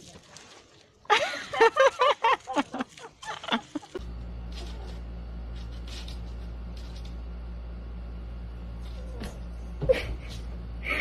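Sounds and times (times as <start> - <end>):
low electrical hum: 1.1 - 11.0.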